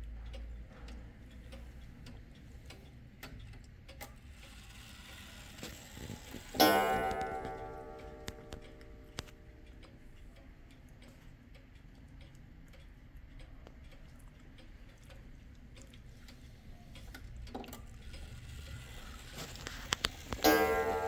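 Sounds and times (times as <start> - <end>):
wall clock ticking: 0.0 - 21.0.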